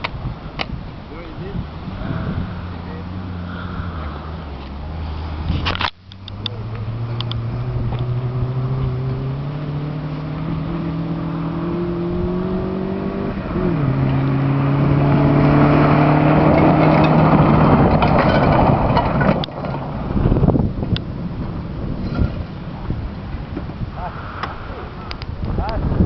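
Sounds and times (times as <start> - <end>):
gravel and tyre noise: 0.0 - 26.0
rally car engine accelerating: 1.6 - 25.2.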